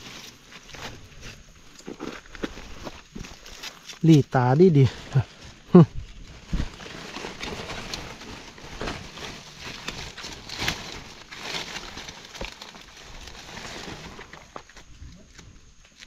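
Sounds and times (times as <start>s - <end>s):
footsteps crunching through undergrowth: 0.0s - 16.0s.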